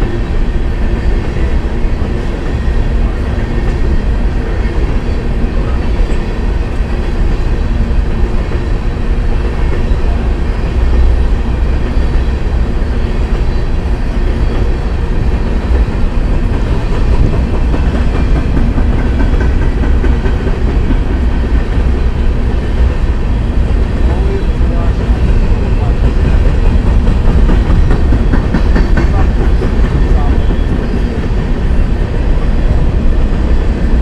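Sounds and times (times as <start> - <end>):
freight train rolling past: 0.0 - 34.0
steel wheels rumbling on rails: 0.0 - 34.0.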